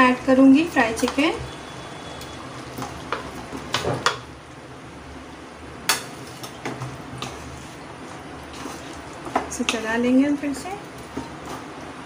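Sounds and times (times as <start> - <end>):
low steady sizzle: 0.0 - 12.0.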